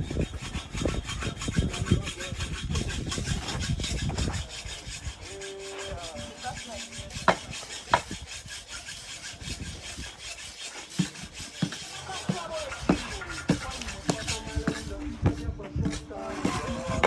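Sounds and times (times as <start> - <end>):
rasping scraping work noise: 0.0 - 17.0.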